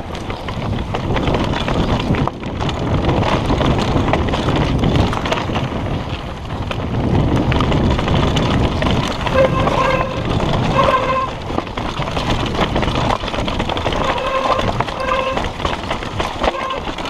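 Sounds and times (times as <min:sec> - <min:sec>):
bike rattling over bumps: 0:00.0 - 0:17.0
tyres crunching over dirt and stones: 0:00.0 - 0:17.0
wind on microphone: 0:00.0 - 0:17.0.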